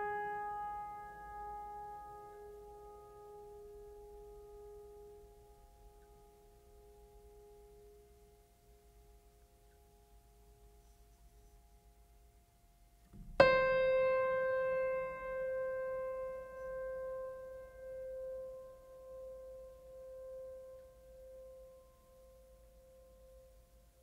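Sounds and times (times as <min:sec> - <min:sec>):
soft held ambient tones: 0:00.0 - 0:24.0.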